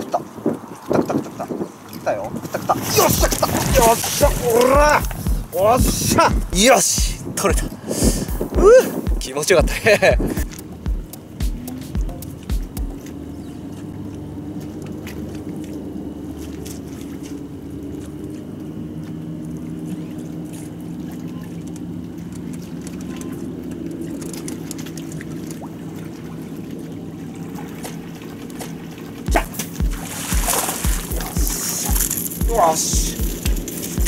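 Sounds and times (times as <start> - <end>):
water lapping at shoreline: 0.0 - 34.0
low engine hum: 3.0 - 34.0.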